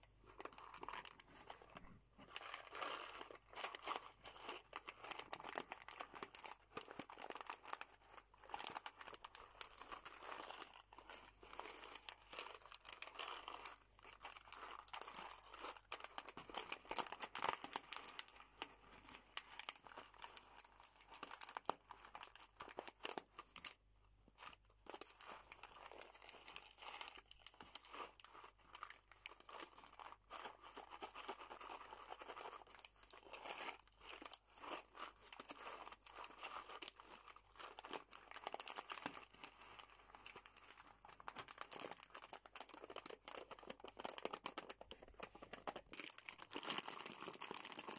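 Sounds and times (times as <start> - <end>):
foil snack bag crinkling: 0.2 - 23.7, 24.9 - 47.9.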